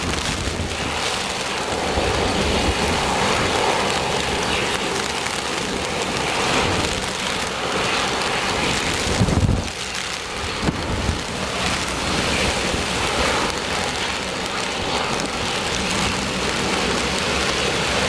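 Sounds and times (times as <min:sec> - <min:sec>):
heavy rain: 0:00.0 - 0:18.0
wind buffeting microphone: 0:00.0 - 0:18.0.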